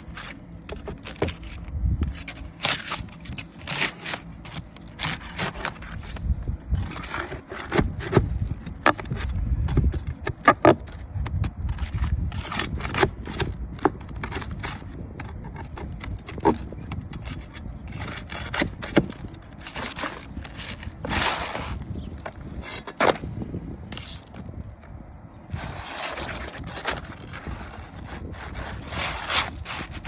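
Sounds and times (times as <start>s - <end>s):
scraping and rubbing: 0.0s - 24.8s, 25.5s - 30.0s.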